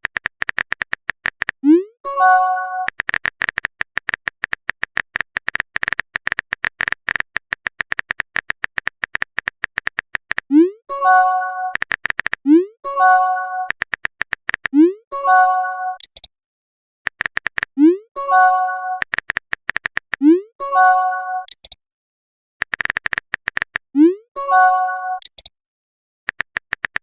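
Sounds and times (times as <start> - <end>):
keyboard typing clicks: 0.0 - 16.3, 17.1 - 20.4, 21.2 - 21.8, 22.6 - 25.5, 26.3 - 27.0.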